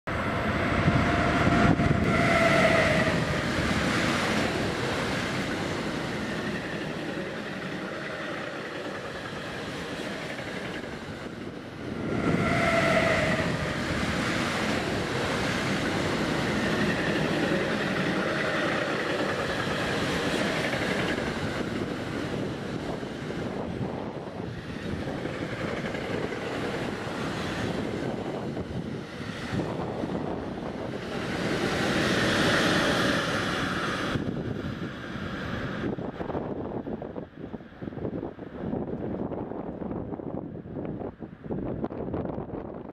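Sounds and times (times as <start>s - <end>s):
freight train rumbling and clattering: 0.1s - 42.9s
multi-tone locomotive whine: 0.1s - 42.9s.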